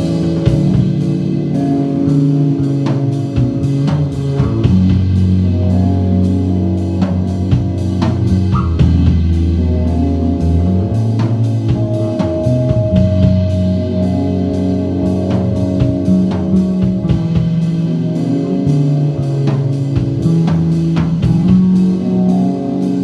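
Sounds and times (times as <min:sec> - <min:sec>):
bass guitar notes: 0:00.0 - 0:23.0
drums and cymbals beat: 0:00.0 - 0:23.0
electric guitar: 0:00.0 - 0:23.0.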